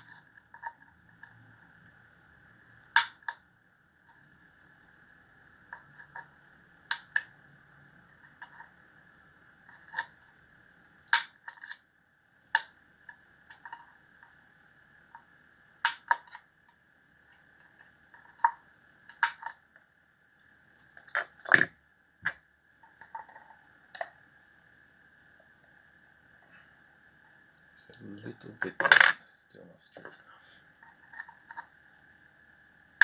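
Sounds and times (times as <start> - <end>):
faint high hum: 0.0 - 33.0.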